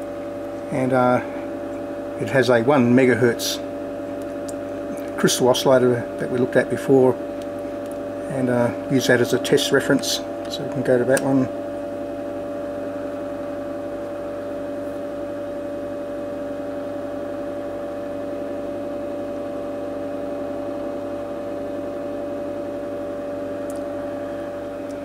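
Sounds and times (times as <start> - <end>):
cooling fan humming: 0.0 - 25.0.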